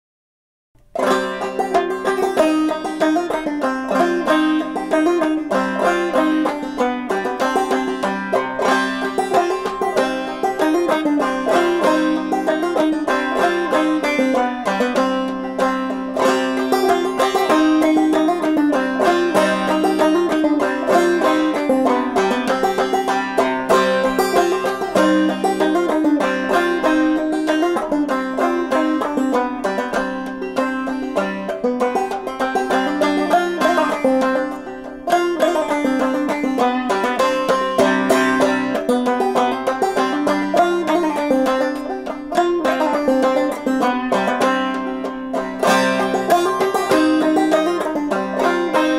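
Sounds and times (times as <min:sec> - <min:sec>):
banjo playing minor key tune: 0:00.8 - 0:48.9.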